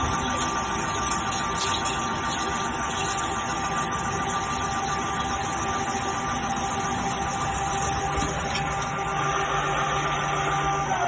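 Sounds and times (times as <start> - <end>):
lathe machine hum with whine: 0.0 - 11.0.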